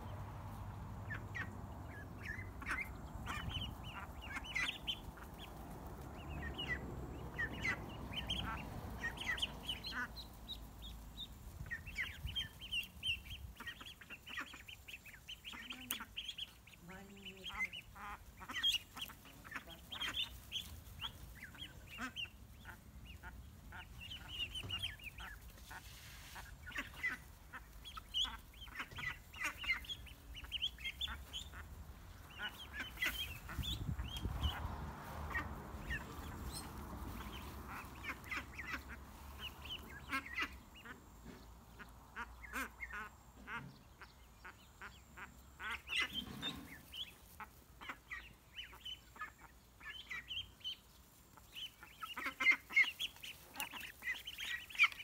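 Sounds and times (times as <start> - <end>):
ducklings and chicks peeping: 0.0 - 55.0.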